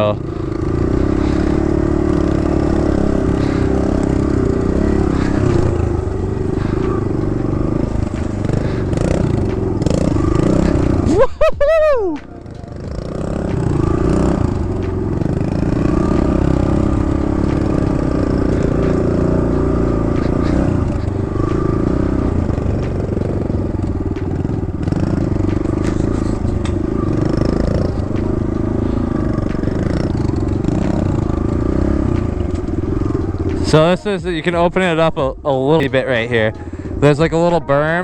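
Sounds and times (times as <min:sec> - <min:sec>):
bike knocks and rattles: 0:00.0 - 0:34.7
dirt bike engine running: 0:00.0 - 0:38.0.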